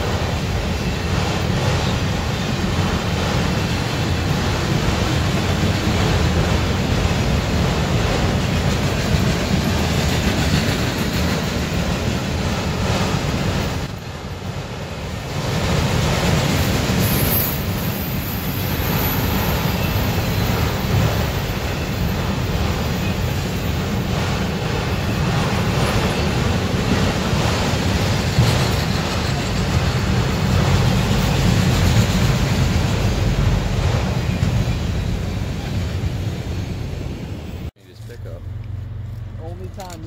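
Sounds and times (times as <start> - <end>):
freight train wheels rattling: 0.0 - 40.0.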